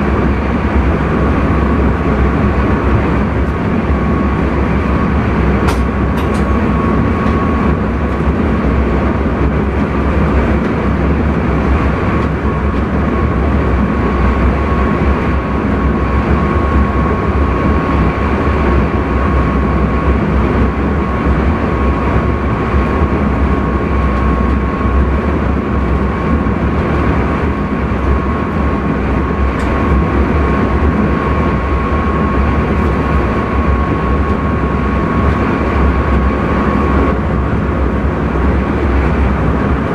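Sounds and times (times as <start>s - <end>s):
high whine: 0.0s - 39.9s
train wheels rumbling on rails: 0.0s - 39.9s.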